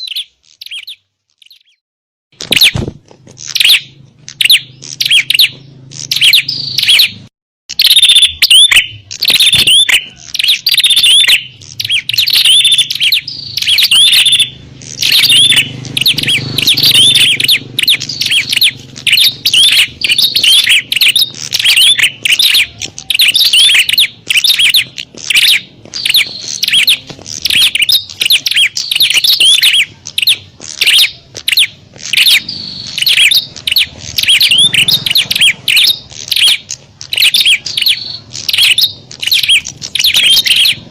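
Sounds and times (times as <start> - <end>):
bird high sharp chirps: 0.0 - 1.8, 2.4 - 40.9.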